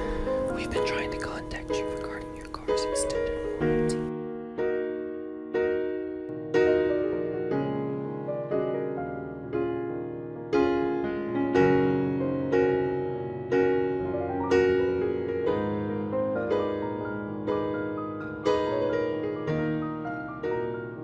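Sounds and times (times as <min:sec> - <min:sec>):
piano chords ringing: 0:00.0 - 0:21.0.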